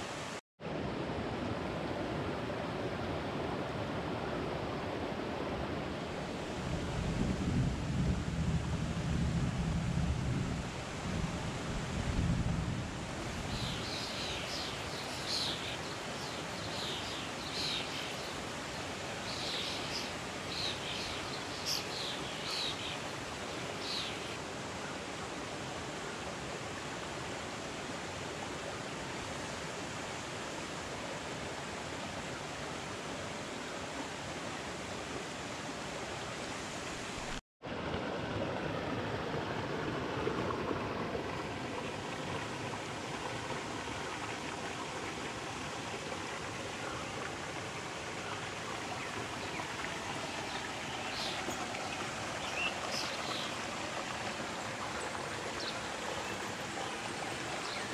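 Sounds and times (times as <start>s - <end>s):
stream rushing over stones: 10.0s - 57.9s.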